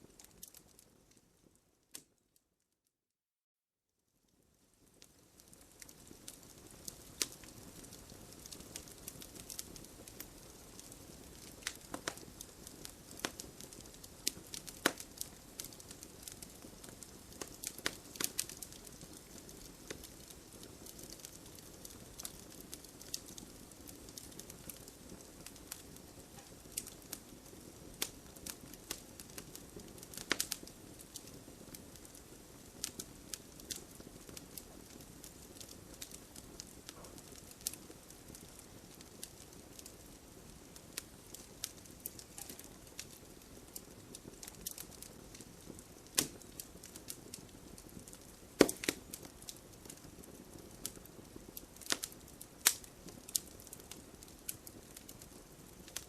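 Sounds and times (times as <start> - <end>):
campfire crackling: 0.0 - 2.1, 4.6 - 56.0.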